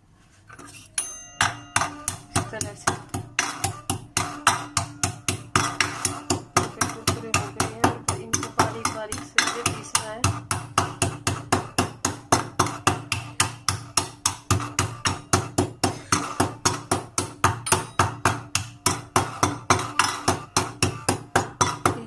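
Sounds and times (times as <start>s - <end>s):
pounding seeds in a bowl: 0.9s - 22.0s.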